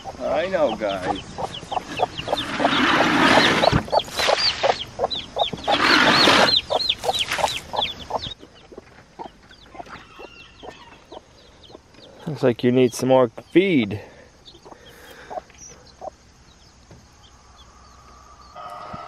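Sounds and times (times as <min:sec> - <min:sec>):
chickens clucking: 0:00.0 - 0:13.5, 0:14.3 - 0:19.0.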